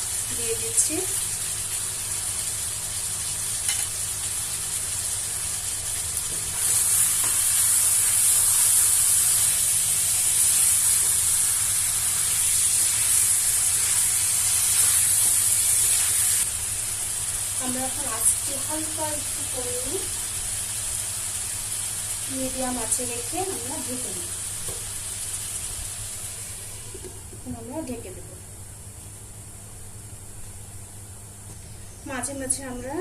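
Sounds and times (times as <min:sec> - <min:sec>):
chicken sizzling in oil: 0:00.0 - 0:26.9.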